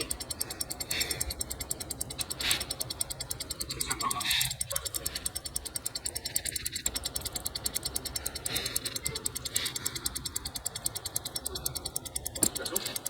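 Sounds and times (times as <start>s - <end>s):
watch ticking rapidly: 0.0s - 13.0s.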